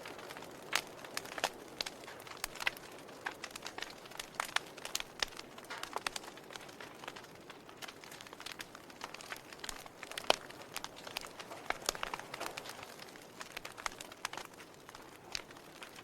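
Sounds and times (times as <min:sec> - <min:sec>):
log fire crackling and popping: 0:00.0 - 0:16.0.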